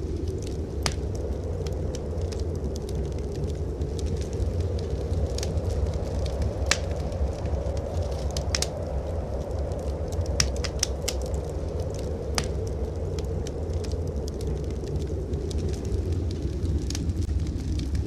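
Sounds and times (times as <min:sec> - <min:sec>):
low rumble of blizzard wind: 0:00.0 - 0:18.0
wood fire crackling and popping: 0:00.0 - 0:18.0.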